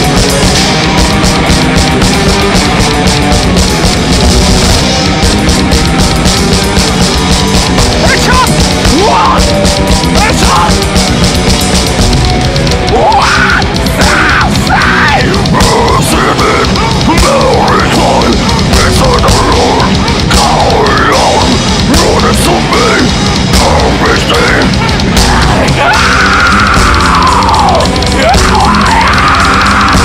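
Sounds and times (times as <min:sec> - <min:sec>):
death metal band playing: 0:00.0 - 0:30.0.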